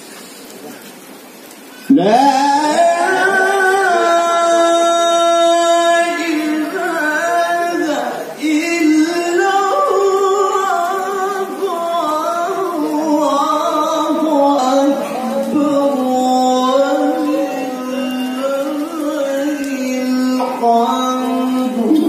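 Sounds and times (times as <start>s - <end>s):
man reciting melodically into microphone: 1.9s - 22.0s.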